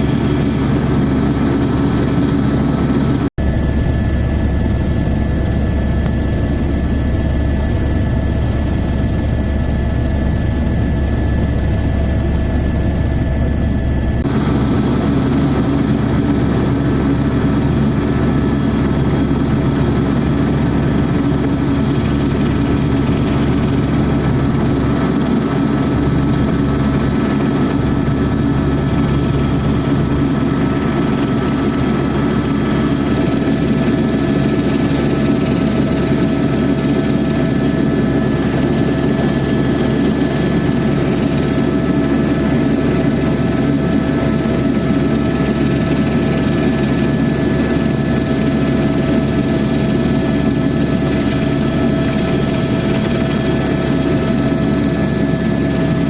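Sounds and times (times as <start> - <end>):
constant high whine: 0.0 - 56.0
helicopter rotor and turbine drone: 0.0 - 56.0.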